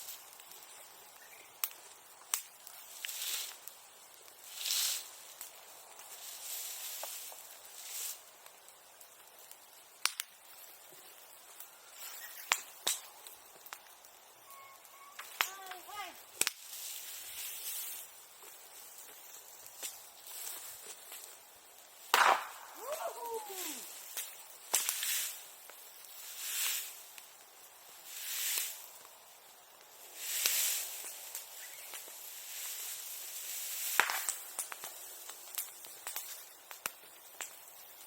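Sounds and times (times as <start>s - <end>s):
fire hissing surges: 0.0s - 14.4s, 15.8s - 38.0s
bonfire crackling and popping: 0.0s - 38.0s.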